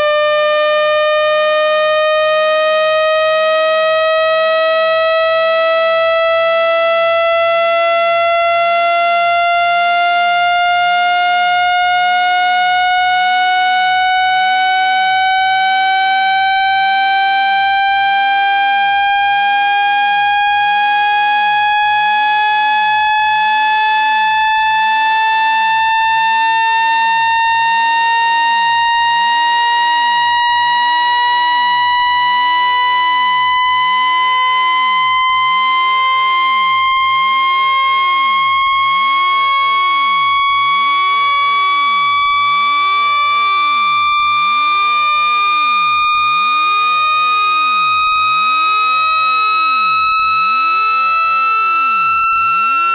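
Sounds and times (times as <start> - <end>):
buzzy synthesized tone rising in pitch: 0.0 - 52.9.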